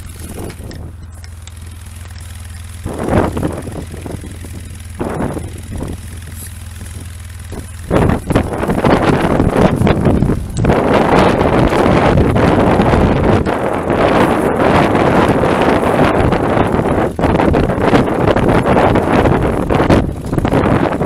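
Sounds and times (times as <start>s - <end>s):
engine idling: 0.0s - 21.0s
wind buffeting microphone: 0.0s - 21.0s.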